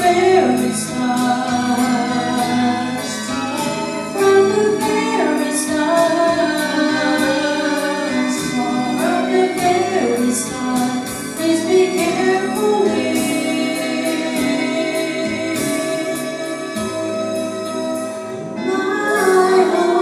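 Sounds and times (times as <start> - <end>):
man and woman singing duet: 0.0 - 17.6, 18.6 - 20.0
backing music: 0.0 - 20.0.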